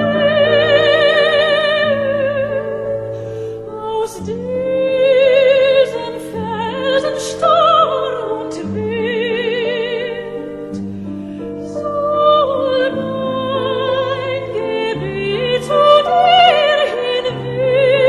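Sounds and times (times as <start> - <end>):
operatic singing: 0.0 - 10.8, 11.4 - 18.0.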